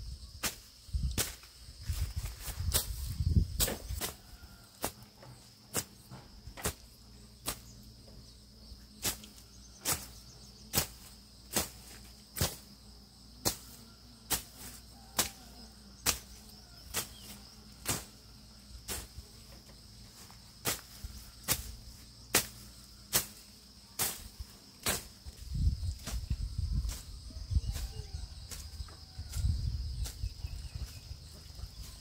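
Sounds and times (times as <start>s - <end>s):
high insect trill: 0.0s - 32.0s.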